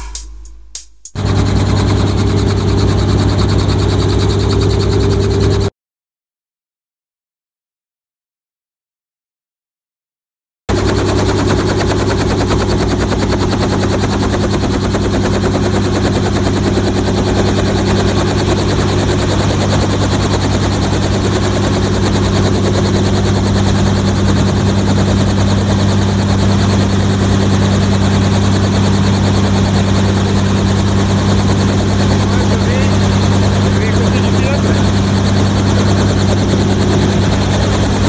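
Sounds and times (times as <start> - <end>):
helicopter engine and rotor drone: 1.2 - 5.7, 10.7 - 38.0.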